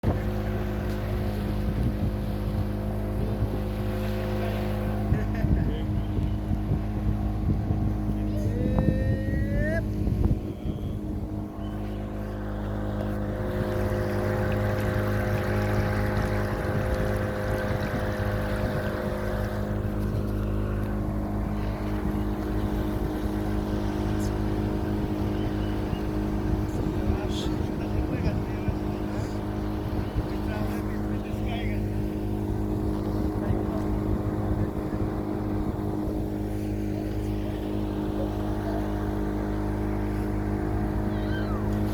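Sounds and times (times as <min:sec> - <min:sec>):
wind noise: 0:00.0 - 0:38.1
motorboat engine running: 0:00.0 - 0:41.9
water noise: 0:00.0 - 0:41.9.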